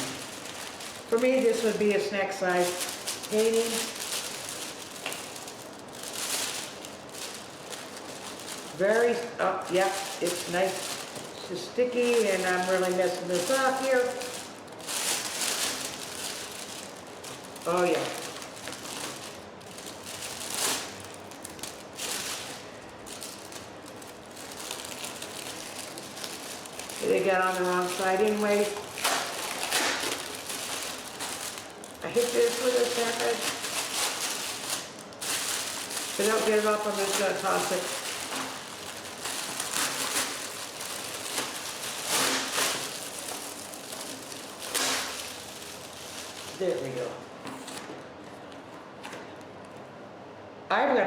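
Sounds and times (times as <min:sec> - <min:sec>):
plastic film crinkling: 0:00.0 - 0:50.0.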